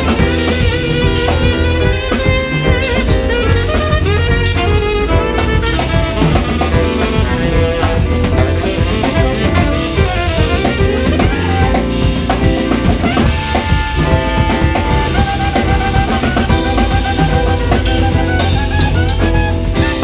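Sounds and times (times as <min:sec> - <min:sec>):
bass: 0:00.0 - 0:20.0
drum kit with rimshots: 0:00.0 - 0:20.0
piano: 0:00.0 - 0:20.0
tenor saxophone: 0:00.0 - 0:20.0.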